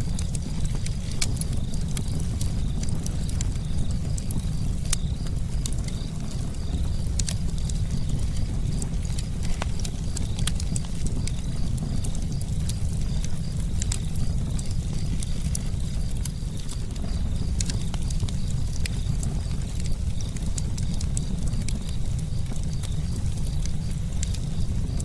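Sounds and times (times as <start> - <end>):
campfire crackling and popping: 0.0 - 25.0
low rumble of flames: 0.0 - 25.0.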